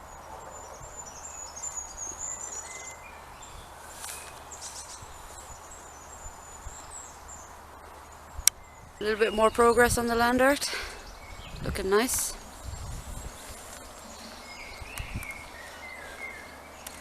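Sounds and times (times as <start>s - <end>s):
birds singing warbling phrases: 0.0s - 17.0s
outdoor background hiss: 0.0s - 17.0s.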